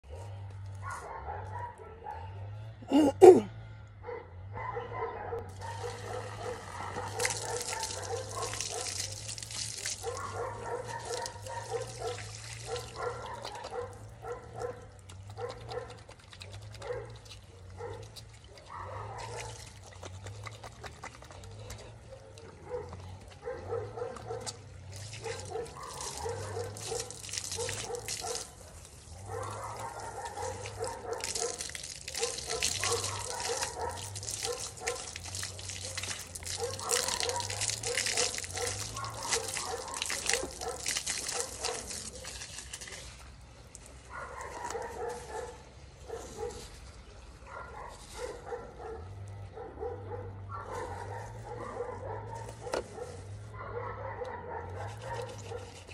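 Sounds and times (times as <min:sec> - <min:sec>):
dog barking: 0:00.1 - 0:02.7, 0:04.0 - 0:16.0, 0:16.7 - 0:19.7, 0:20.8 - 0:42.4, 0:44.1 - 0:46.7, 0:47.4 - 0:55.8
hose water splashing on concrete: 0:05.5 - 0:49.3, 0:50.5 - 0:55.9.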